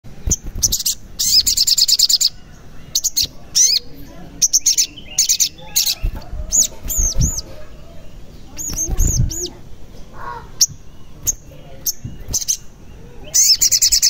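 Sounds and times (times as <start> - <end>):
sunbird chirps and trills: 0.1 - 14.0.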